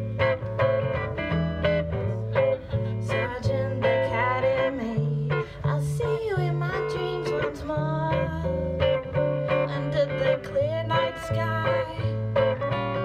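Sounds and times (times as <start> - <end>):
electric guitar strumming: 0.0 - 13.0
woman singing: 2.6 - 13.0.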